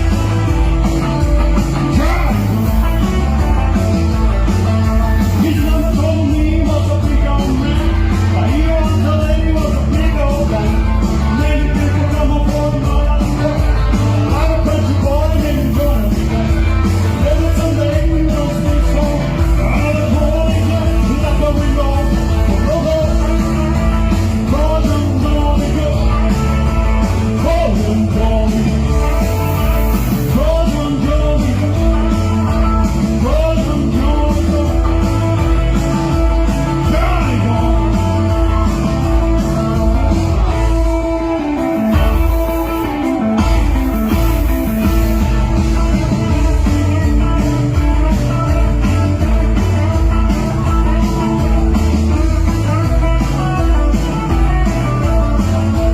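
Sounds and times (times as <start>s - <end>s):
man singing: 0.0s - 55.9s
rock and roll band playing: 0.0s - 55.9s.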